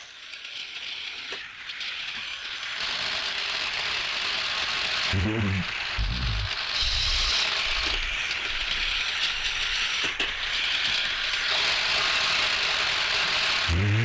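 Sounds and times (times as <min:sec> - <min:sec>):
model train rattling on track: 0:00.0 - 0:13.7.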